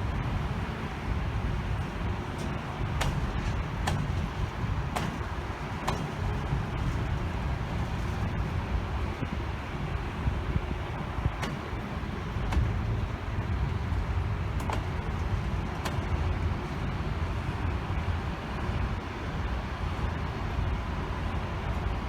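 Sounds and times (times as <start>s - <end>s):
train low rumble: 0.0s - 22.0s.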